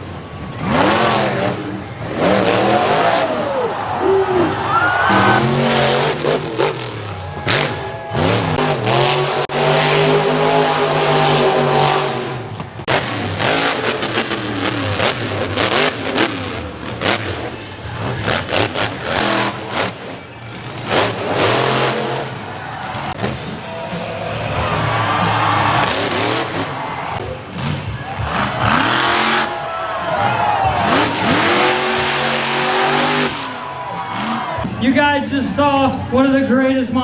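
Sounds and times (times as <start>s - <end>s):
monster truck engines revving: 0.0s - 37.0s.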